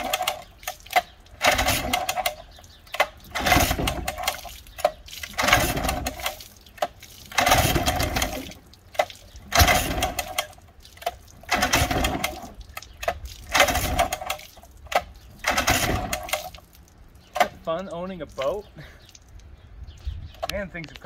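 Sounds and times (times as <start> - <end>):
outboard motor recoil starter pulls: 0.0 - 17.7.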